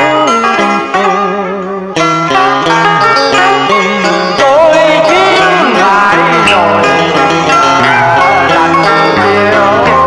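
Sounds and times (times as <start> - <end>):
karaoke backing music: 0.0 - 10.0
plucked-string melody: 0.0 - 10.0.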